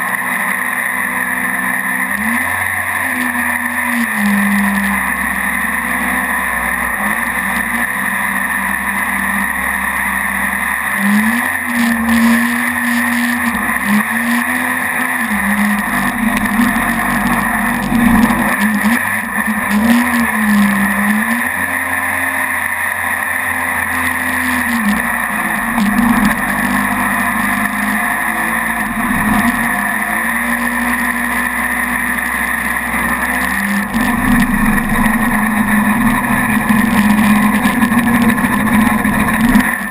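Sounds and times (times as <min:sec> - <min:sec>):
jet boat engine running: 0:00.0 - 0:39.9.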